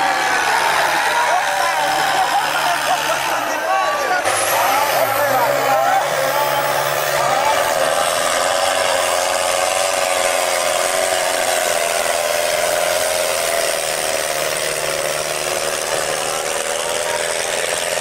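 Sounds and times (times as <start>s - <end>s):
tractor diesel engine running hard: 0.0s - 18.0s.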